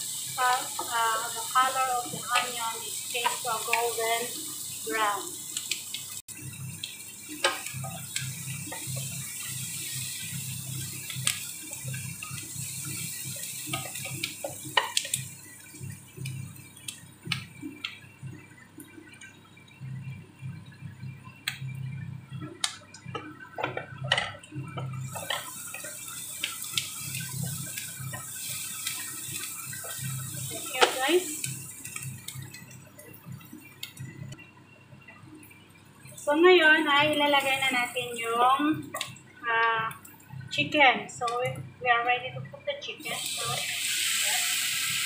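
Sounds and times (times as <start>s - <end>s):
onion and garlic sizzling in oil: 0.0s - 45.0s.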